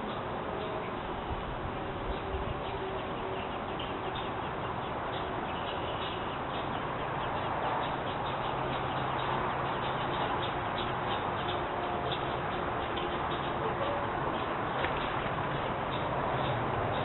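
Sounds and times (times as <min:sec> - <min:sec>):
baby birds cheeping: 0:02.1 - 0:17.0.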